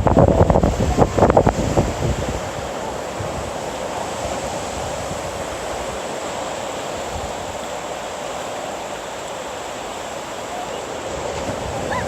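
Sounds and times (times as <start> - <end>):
waves surging on shore: 0.0 - 12.0.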